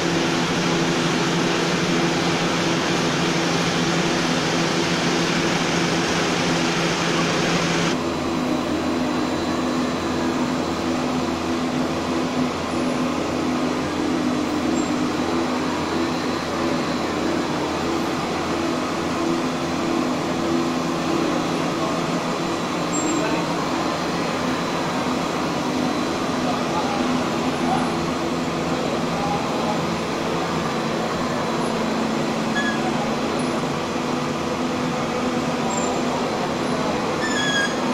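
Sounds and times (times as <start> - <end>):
machinery humming and whirring: 0.0 - 37.9.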